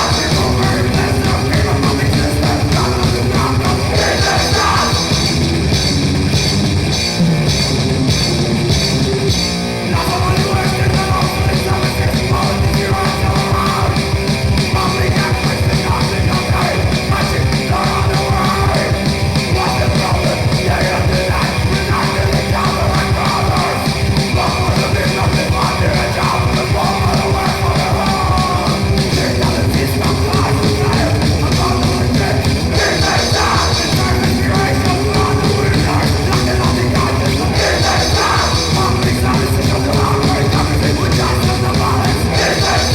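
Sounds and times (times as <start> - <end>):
distorted guitar and bass: 0.0 - 42.9
fast drums: 0.0 - 42.9
harsh vocals: 0.0 - 42.9.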